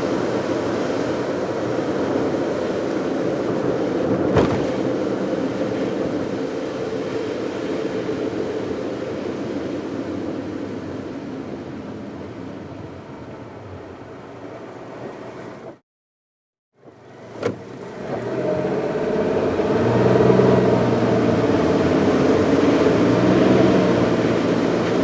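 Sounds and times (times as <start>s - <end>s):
car tyre and road noise: 0.0s - 15.8s, 16.7s - 25.0s.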